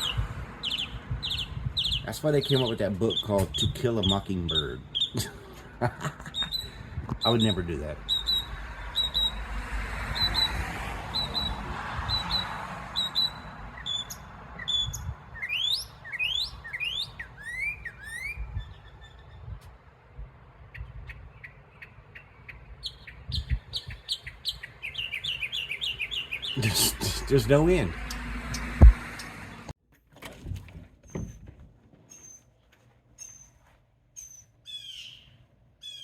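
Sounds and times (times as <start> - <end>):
mockingbird singing: 0.0 - 9.4, 10.1 - 19.5, 20.7 - 29.6, 34.2 - 36.0.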